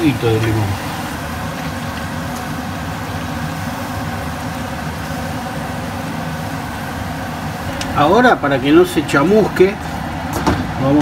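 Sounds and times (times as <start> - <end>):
food sizzling in a wok: 0.0 - 10.3
gas burner hum: 0.0 - 11.0.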